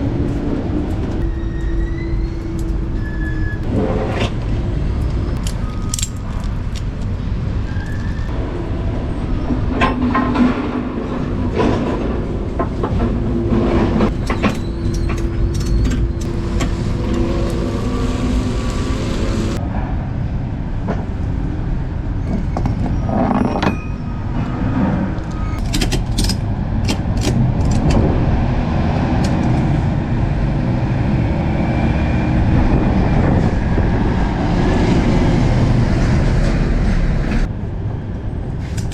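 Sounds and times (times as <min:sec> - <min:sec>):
engine and road rumble: 0:00.0 - 0:38.9.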